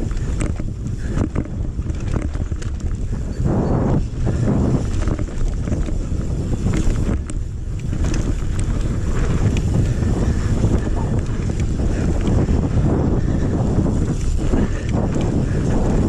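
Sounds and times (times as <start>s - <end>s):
bike clicks and rattles: 0.0s - 16.0s
tyres rumbling on dirt: 0.0s - 16.0s
wind on microphone: 0.0s - 16.0s.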